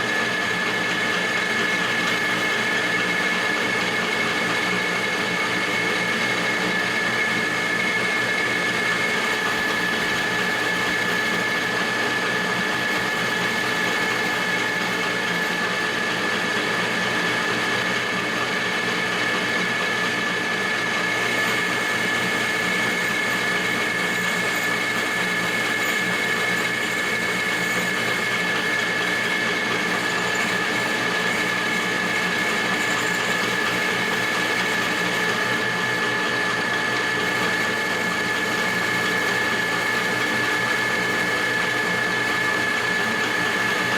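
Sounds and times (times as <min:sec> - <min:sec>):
metal lathe whining: 0:00.0 - 0:43.9.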